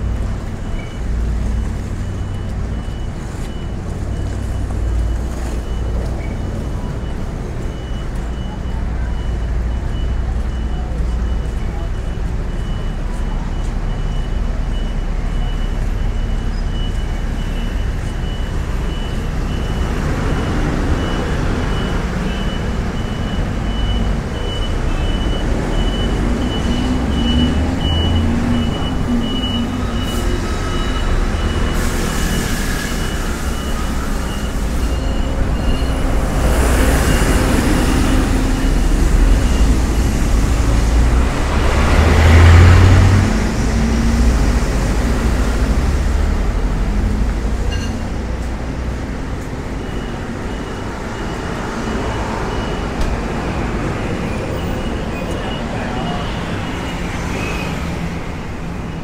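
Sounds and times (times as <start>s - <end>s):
traffic engine rumble: 0.0s - 59.0s
vehicles passing close by: 0.0s - 59.0s.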